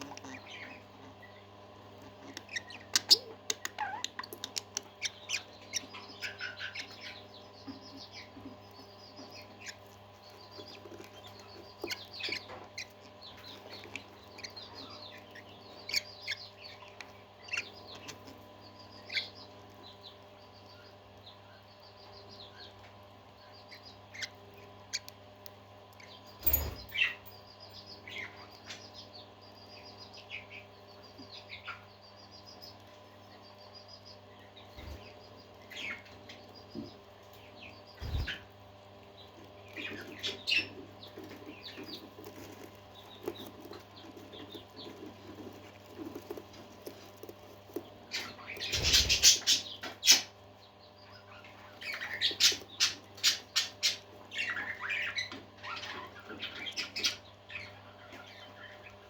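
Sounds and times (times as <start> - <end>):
parakeets chirping: 0.0 - 59.0
steady low hum: 0.0 - 59.0.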